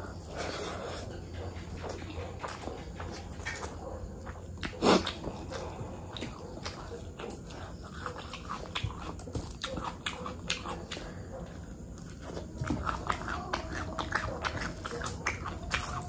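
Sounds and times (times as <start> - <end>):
wet chewing and mouth smacking: 0.0 - 16.0.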